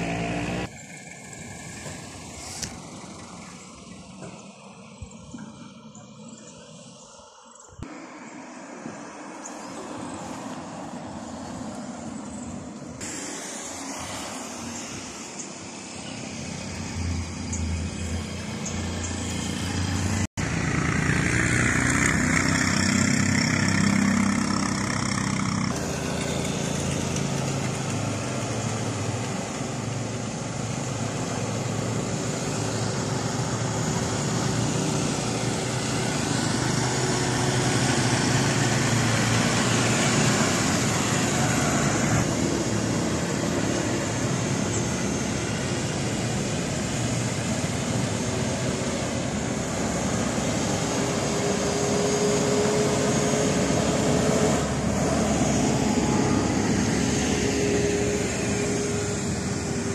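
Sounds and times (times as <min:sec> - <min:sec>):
motorcycle passing: 0:00.0 - 0:05.1, 0:13.9 - 0:59.9
auto-rickshaw engine: 0:00.0 - 0:59.9
car passing: 0:00.0 - 0:59.9
truck engine hum: 0:00.0 - 0:59.9.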